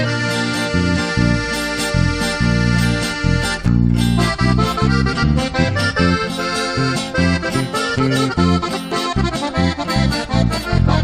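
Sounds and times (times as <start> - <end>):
accordion melody: 0.0 - 11.0
bass line: 0.0 - 11.0.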